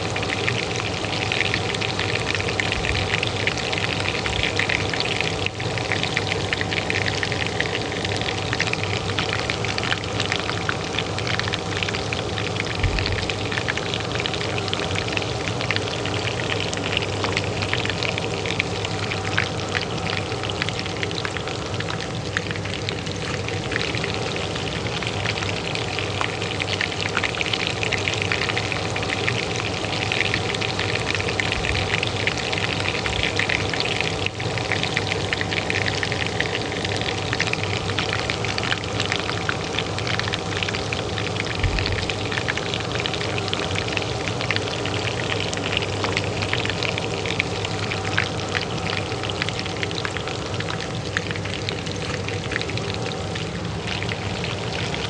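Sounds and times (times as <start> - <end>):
hot oil sizzling in a pan: 0.0 - 55.0
range hood fan humming: 0.0 - 55.0.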